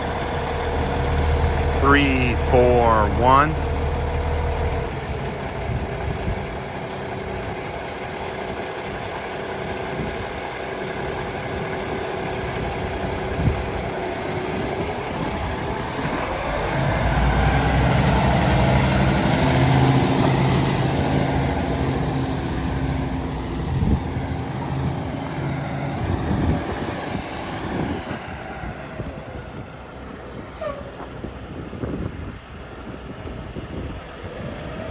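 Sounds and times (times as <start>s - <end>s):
diesel truck engine running: 0.0s - 30.4s.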